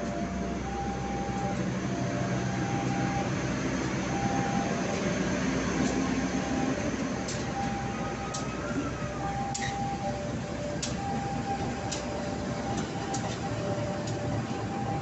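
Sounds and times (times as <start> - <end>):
coaches rolling on rails: 0.0 - 15.0.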